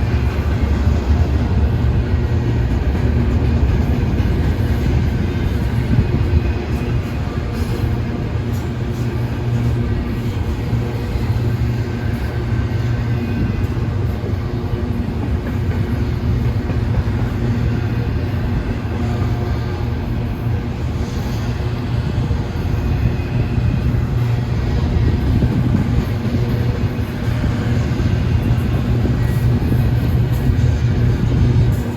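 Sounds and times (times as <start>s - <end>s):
freight train rumbling past: 0.0s - 31.9s.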